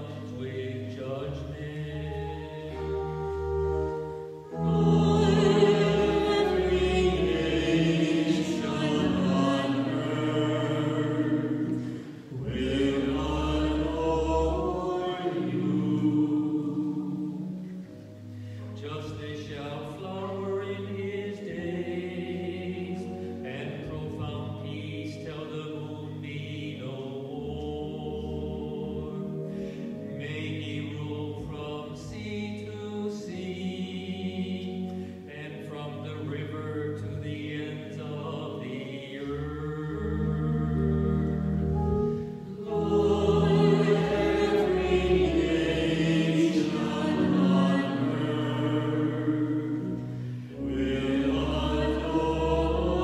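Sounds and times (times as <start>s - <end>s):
low accompanying notes: 0.0s - 53.0s
voices singing a psalm: 0.0s - 53.0s.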